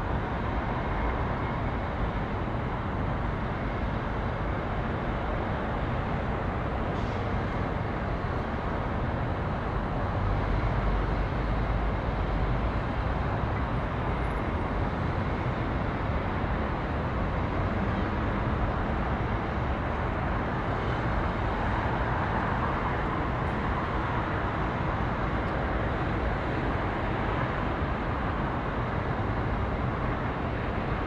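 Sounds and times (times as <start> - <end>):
traffic noise: 0.0 - 31.0.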